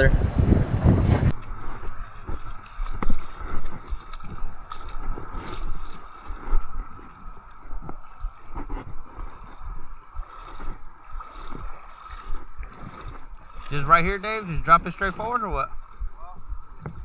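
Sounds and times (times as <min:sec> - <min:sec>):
wind buffeting microphone: 0:00.0 - 0:17.0
water gurgling against rocks: 0:01.2 - 0:17.0.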